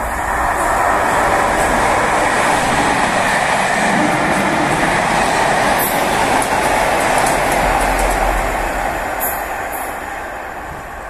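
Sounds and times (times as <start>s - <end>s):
train rumbling past at speed: 0.0s - 11.0s.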